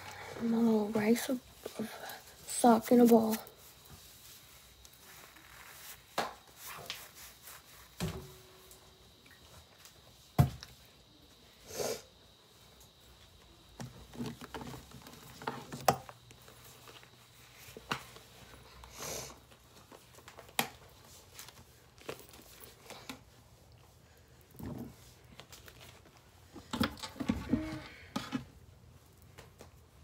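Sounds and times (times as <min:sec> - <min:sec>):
rustling and handling: 0:00.0 - 0:10.3, 0:12.6 - 0:30.0.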